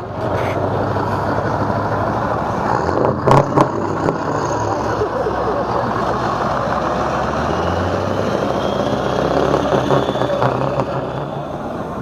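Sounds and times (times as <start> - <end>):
truck diesel engine passing: 0.0 - 12.0.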